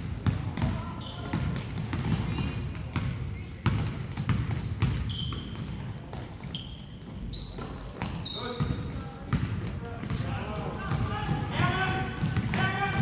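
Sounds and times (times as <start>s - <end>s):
sneakers squeaking: 0.0s - 13.0s
basketball bouncing: 0.1s - 6.5s, 7.6s - 13.0s.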